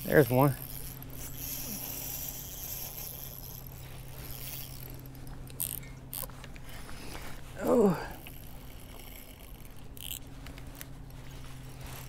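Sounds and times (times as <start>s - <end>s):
fishing reel gears and drag: 0.0s - 12.0s
steady low hum: 0.0s - 12.0s.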